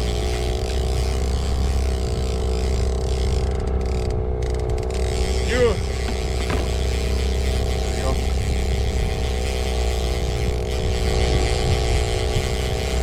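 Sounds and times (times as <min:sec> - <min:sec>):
boat motor rumbling: 0:00.0 - 0:13.0.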